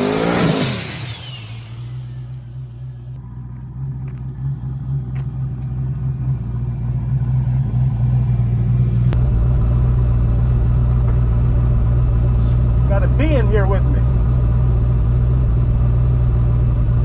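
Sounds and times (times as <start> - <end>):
race car engine rumbling: 0.0 - 17.0.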